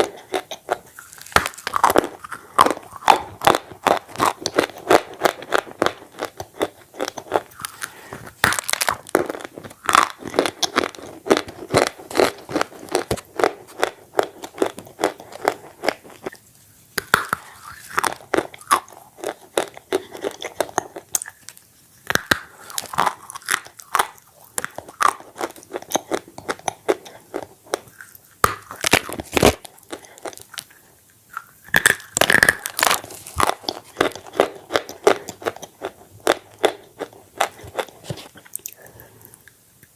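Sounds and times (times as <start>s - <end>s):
crunching and chewing bread: 0.0s - 16.4s, 17.0s - 39.6s.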